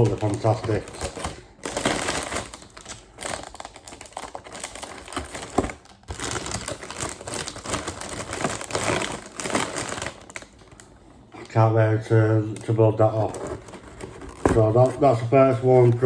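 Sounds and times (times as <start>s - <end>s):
plastic packaging crinkling: 0.0s - 11.2s, 12.4s - 16.0s.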